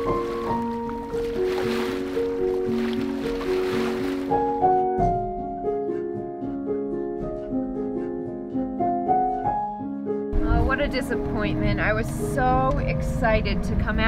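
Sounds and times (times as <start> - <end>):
gentle instrumental music: 0.0 - 14.0.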